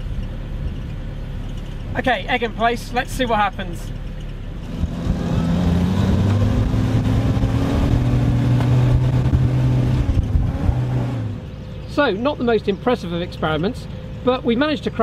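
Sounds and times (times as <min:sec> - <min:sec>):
jeep engine pulling away: 0:00.0 - 0:15.0.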